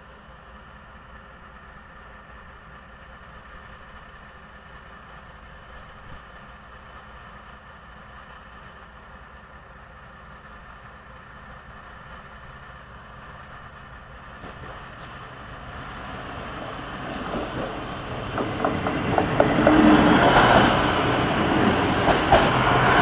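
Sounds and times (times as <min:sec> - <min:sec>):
diesel locomotive idling: 0:00.0 - 0:23.0.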